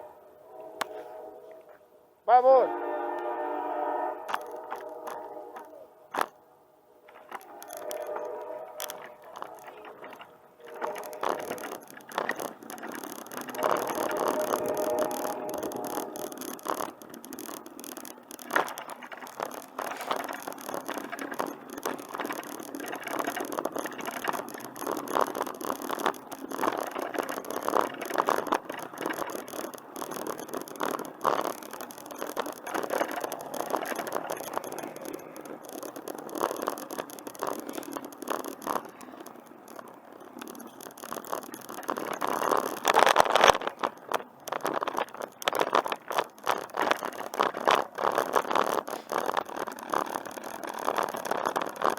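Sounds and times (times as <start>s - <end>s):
tyre noise on trail: 2.6s - 6.4s, 7.0s - 51.9s
bicycle rattling: 3.0s - 6.4s, 7.0s - 51.9s.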